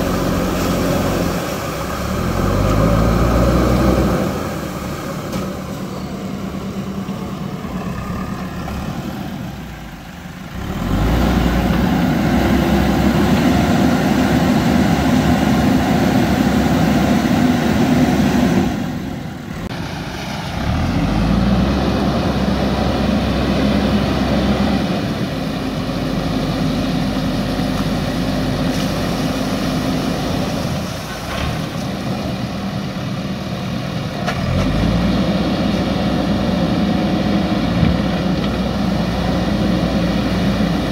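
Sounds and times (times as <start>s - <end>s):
diesel engine working under load: 0.0s - 40.9s.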